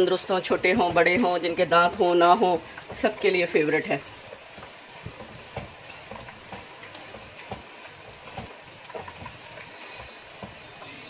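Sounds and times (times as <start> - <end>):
slices sizzling in hot oil: 0.0 - 11.0.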